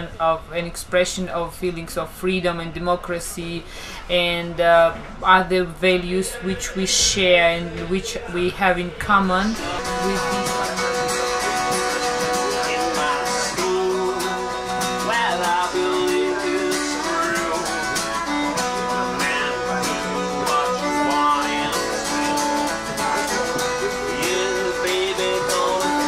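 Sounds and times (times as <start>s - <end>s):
acoustic guitar music: 4.1s - 26.0s.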